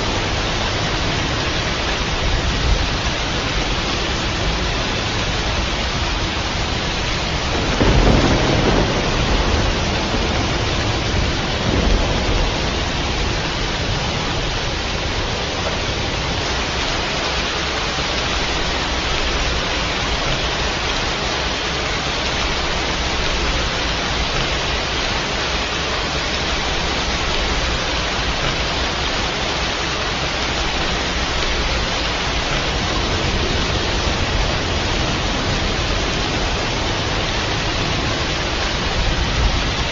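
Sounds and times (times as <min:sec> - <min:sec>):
rain hissing: 0:00.0 - 0:39.9
thunder rumbling: 0:00.0 - 0:39.9.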